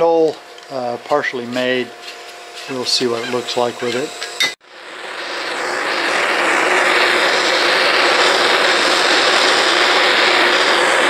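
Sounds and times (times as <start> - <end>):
gas torch flame roaring: 0.0 - 11.0.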